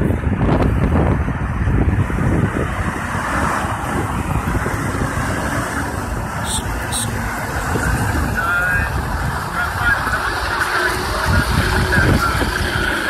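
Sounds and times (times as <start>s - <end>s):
truck passing: 0.0s - 13.0s
wind on microphone: 0.0s - 13.0s.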